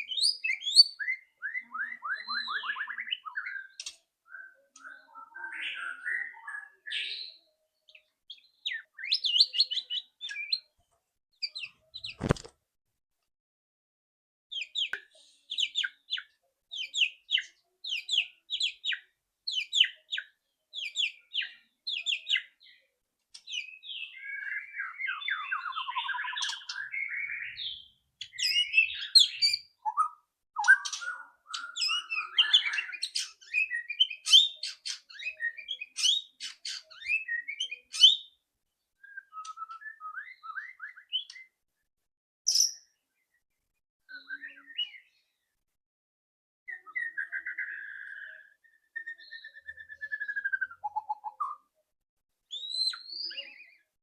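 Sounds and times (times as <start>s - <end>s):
bird warbled song: 0.0s - 10.8s, 11.4s - 12.5s, 14.5s - 38.4s, 39.0s - 41.6s, 42.5s - 43.4s, 44.1s - 45.5s, 46.7s - 51.7s, 52.5s - 54.0s.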